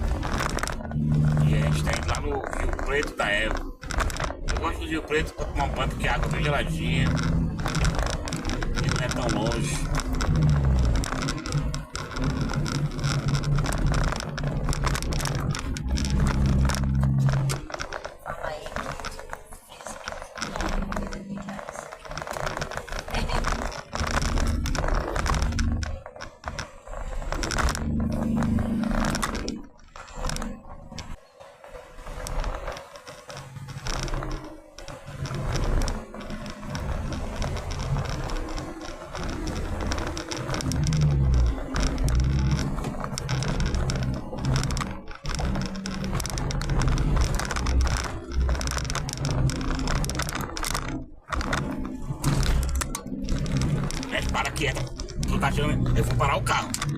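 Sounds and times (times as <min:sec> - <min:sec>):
tyre and wind noise: 0:00.0 - 0:19.6, 0:20.4 - 0:56.9
high ticking: 0:00.0 - 0:31.2, 0:32.0 - 0:56.9
car engine and road hum: 0:00.0 - 0:56.9
crackling clicks: 0:00.0 - 0:56.9.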